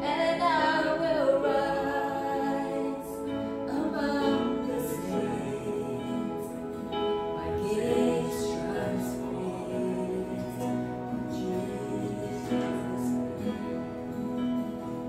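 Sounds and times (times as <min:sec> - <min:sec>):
church band playing slow song: 0:01.2 - 0:15.0.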